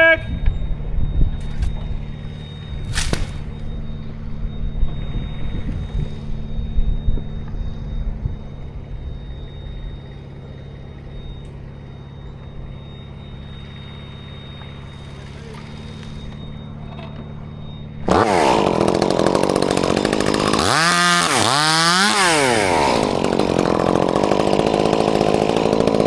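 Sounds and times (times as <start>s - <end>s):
engine running: 0.6s - 26.0s.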